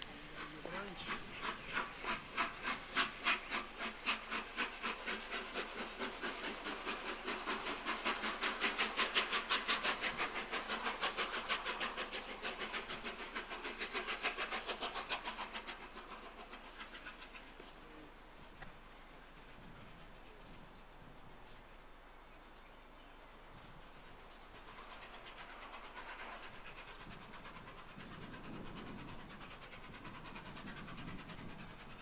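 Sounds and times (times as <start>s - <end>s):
steam locomotive chuffing: 0.0s - 21.4s, 23.3s - 32.0s.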